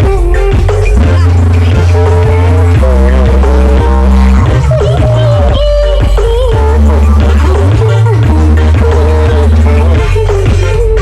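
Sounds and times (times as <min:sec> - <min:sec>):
loud dance music with heavy bass: 0:00.0 - 0:11.0.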